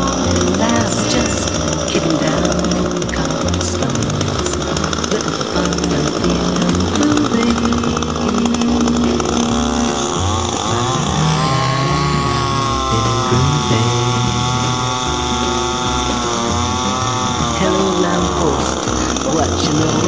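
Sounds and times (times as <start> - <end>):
rock core drill engine running: 0.0 - 20.0.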